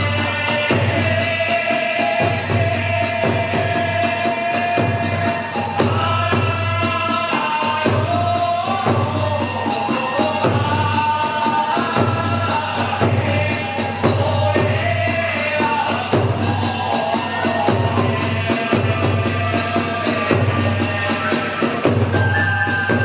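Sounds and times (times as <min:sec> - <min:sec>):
drum beating fast: 0:00.0 - 0:23.0
hand cymbals striking: 0:00.0 - 0:23.0.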